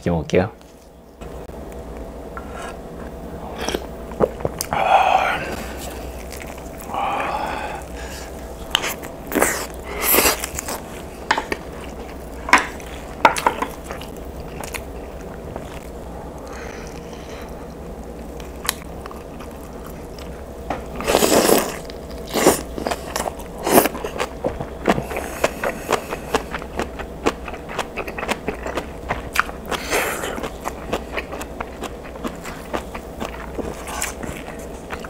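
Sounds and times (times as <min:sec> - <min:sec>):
person chewing food: 0:01.7 - 0:35.0.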